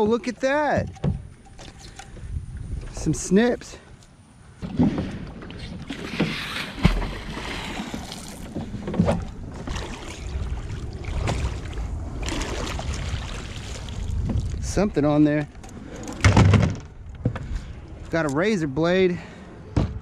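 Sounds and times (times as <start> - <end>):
water slapping against dock: 0.0 - 3.3, 4.6 - 18.5
wind rumbling on microphone: 0.8 - 3.9, 4.5 - 18.2.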